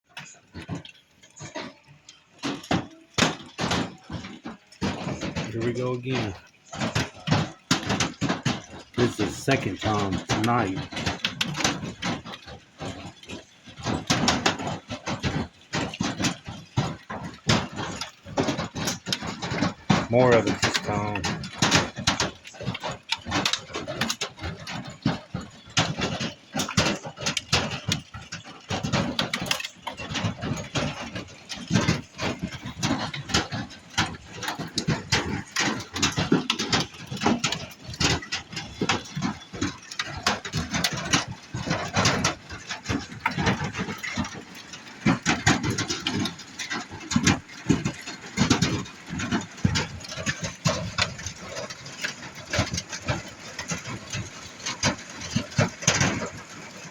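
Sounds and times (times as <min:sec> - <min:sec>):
hail clattering on a roof: 0:00.1 - 0:56.9.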